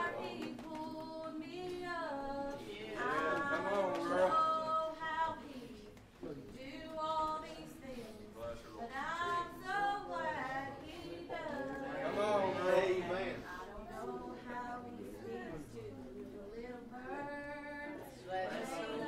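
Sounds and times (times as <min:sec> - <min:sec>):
woman singing: 0:00.0 - 0:12.0, 0:13.6 - 0:19.0
voices singing without instruments: 0:00.0 - 0:19.0.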